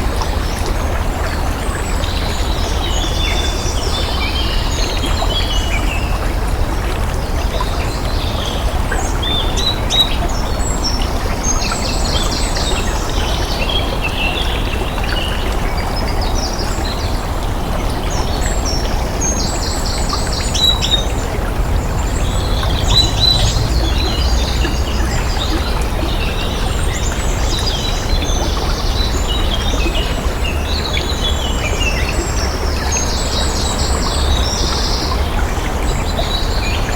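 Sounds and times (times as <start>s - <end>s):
running water: 0.0s - 36.9s.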